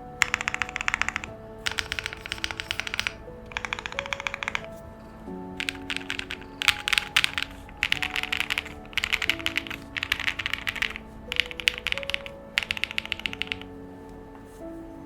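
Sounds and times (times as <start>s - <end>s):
background music sustained notes: 0.0s - 15.0s
mechanical keyboard typing: 0.2s - 4.8s, 5.6s - 13.7s.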